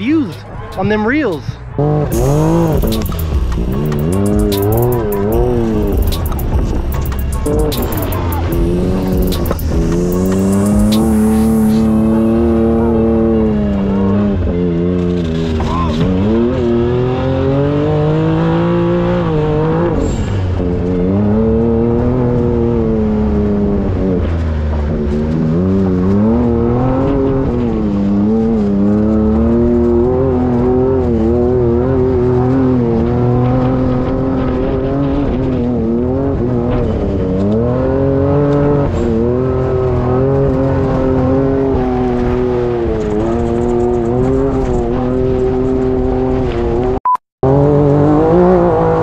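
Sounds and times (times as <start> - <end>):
turbocharged engine revving: 0.0 - 49.0.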